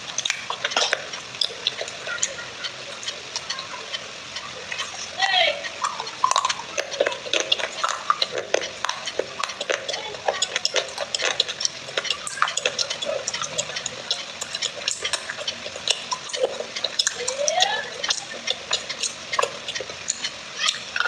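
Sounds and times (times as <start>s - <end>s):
wet clay being stirred and squished: 0.0s - 21.0s.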